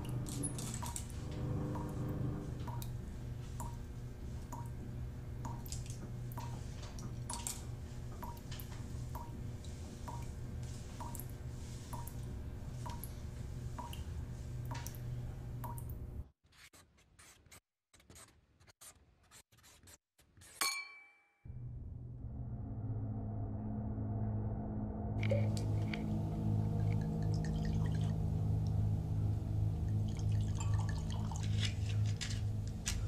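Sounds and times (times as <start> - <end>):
low hum: 0.0 - 16.1, 21.5 - 33.0.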